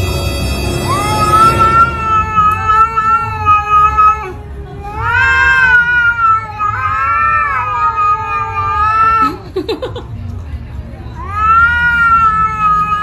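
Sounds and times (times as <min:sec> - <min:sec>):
cats yowling: 0:00.8 - 0:09.4, 0:11.1 - 0:13.0.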